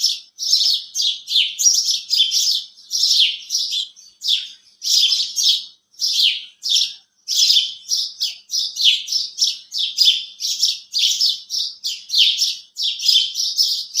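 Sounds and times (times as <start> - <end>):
sparrows chirping: 0.0 - 14.0.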